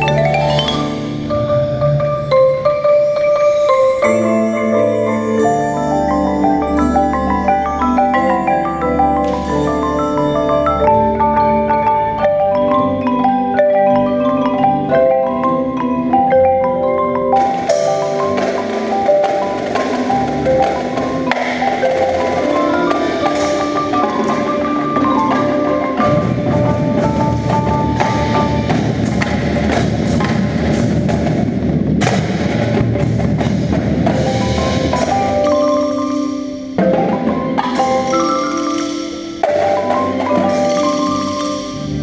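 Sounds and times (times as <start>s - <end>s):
drums and percussion hits: 0.0s - 12.4s, 17.2s - 42.0s
xylophone and glockenspiel: 0.0s - 30.3s, 34.1s - 42.0s.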